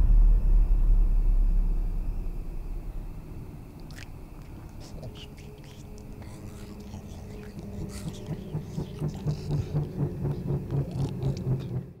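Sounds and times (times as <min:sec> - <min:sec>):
low growl-like pulsing: 0:00.0 - 0:12.0
low hum: 0:00.0 - 0:12.0.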